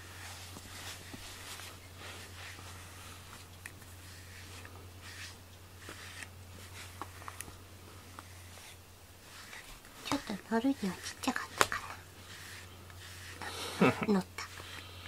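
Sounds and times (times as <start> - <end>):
brush swishing through fur: 0.0 - 14.8.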